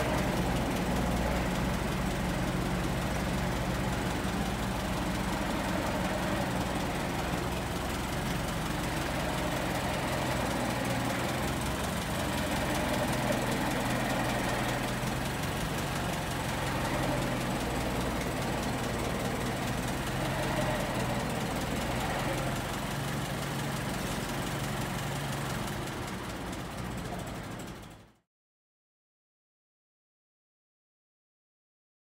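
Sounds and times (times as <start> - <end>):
car engine running at low speed: 0.0 - 28.2.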